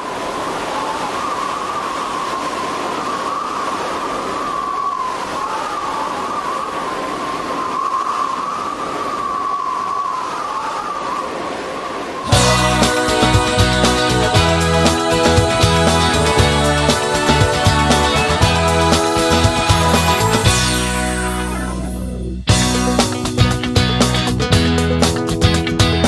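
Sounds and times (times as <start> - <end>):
howling wind: 0.0 - 22.0.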